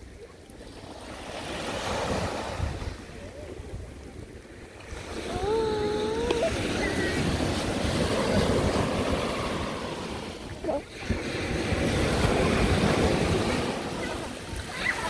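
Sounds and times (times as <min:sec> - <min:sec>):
ocean surf breaking on beach: 0:00.0 - 0:15.0
wind buffeting microphone: 0:02.0 - 0:14.8.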